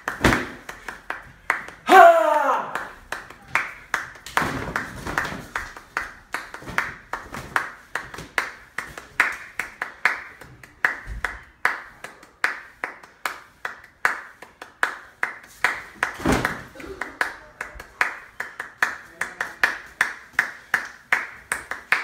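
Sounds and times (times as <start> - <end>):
hand claps keeping a steady beat: 0.0 - 1.9, 2.6 - 22.0.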